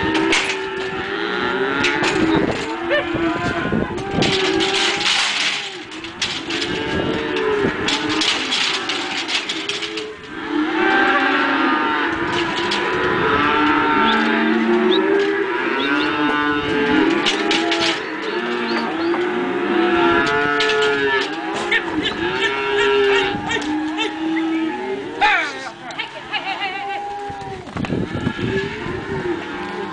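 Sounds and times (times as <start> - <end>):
cattle mooing: 0.0 - 29.9.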